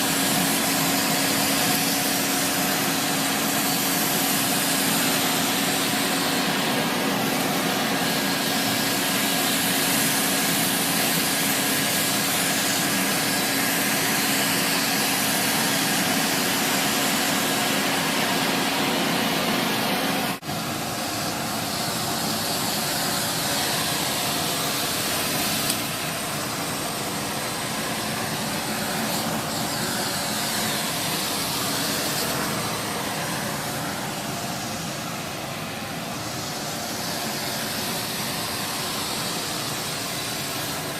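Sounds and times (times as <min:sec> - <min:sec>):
vacuum air rushing: 0:00.0 - 0:40.9
vacuum motor hum: 0:00.0 - 0:40.9.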